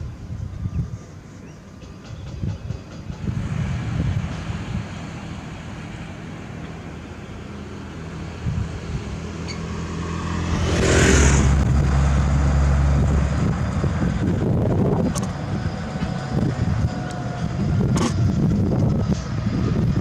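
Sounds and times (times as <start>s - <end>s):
heavy diesel engine running: 2.1s - 20.0s.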